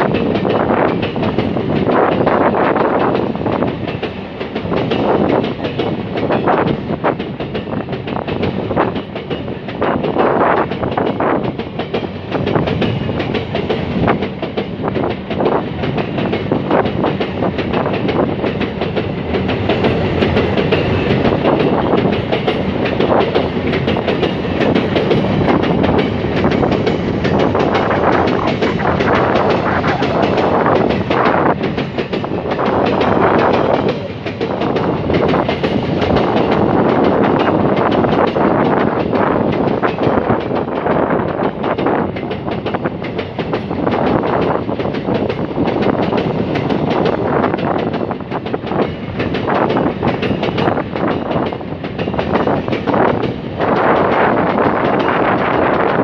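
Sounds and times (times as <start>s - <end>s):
freight train rumbling: 0.0s - 56.0s
wheels clicking over rail joints: 0.0s - 56.0s.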